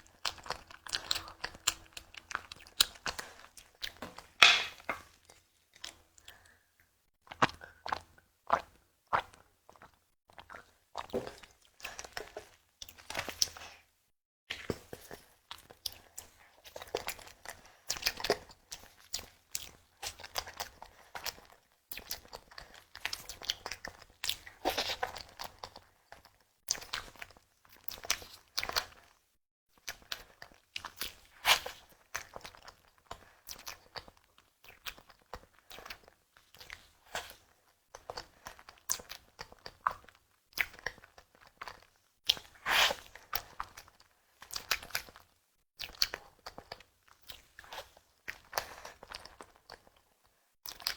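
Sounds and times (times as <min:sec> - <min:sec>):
chewing with crisp crunching: 0:00.0 - 0:50.9.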